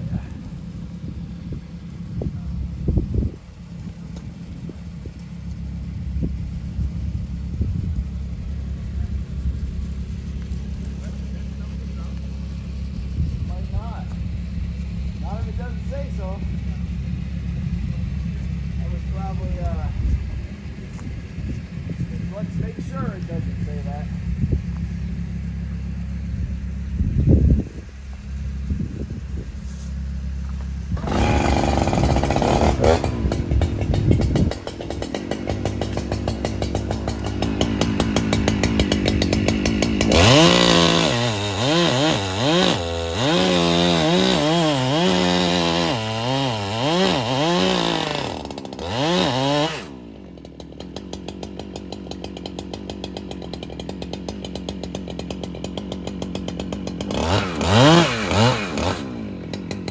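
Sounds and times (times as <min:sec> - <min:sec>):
chainsaw revving: 0:00.0 - 0:27.8, 0:29.7 - 0:59.9.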